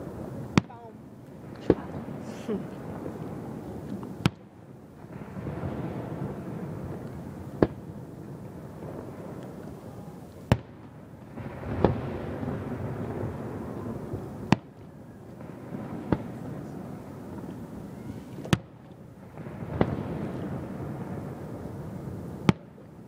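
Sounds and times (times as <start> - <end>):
fireworks bursting bangs: 0.0 - 23.0.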